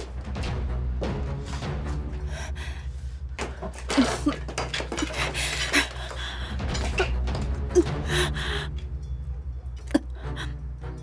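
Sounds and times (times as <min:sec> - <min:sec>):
dramatic music with low drone: 0:00.0 - 0:11.0.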